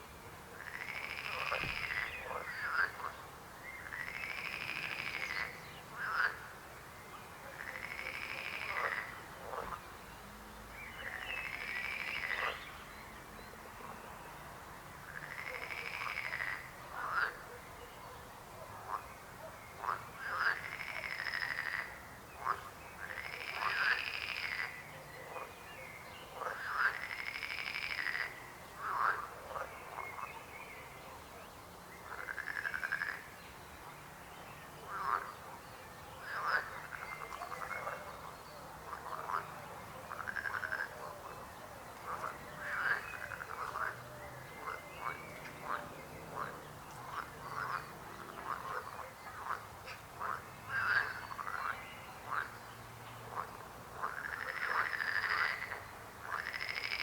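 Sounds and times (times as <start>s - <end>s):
frogs croaking: 0.4s - 10.0s, 10.8s - 12.8s, 15.0s - 17.6s, 18.6s - 30.8s, 31.9s - 34.0s, 34.6s - 57.0s.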